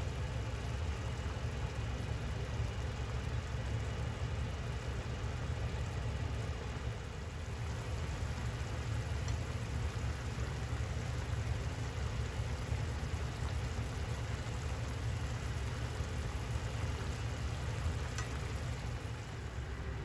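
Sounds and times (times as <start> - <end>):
low rumble of gas stove: 0.0 - 20.0
broth bubbling in a frying pan: 0.1 - 20.0.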